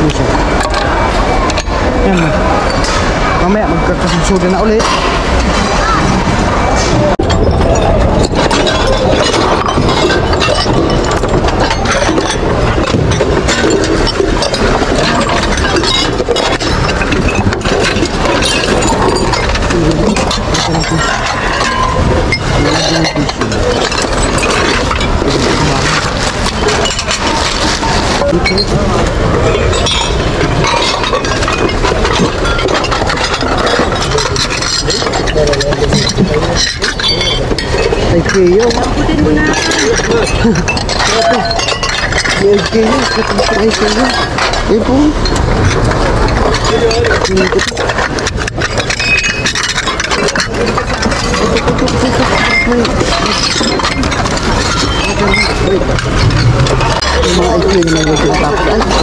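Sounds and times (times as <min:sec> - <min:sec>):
dishes and glassware clinking: 0:00.0 - 0:59.0.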